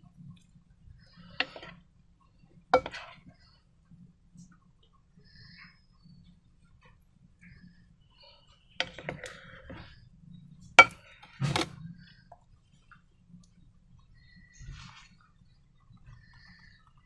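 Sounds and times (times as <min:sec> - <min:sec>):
faint handling sounds: 0:00.0 - 0:17.0.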